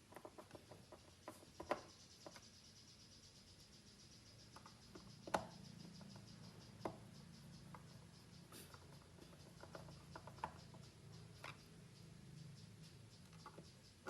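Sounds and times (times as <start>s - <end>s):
small parts clicking and tapping: 0.0s - 2.7s, 4.2s - 14.0s.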